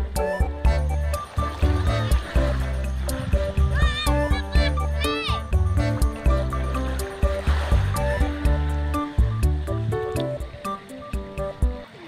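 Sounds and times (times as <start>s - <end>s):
background music with steady beat: 0.0s - 11.9s.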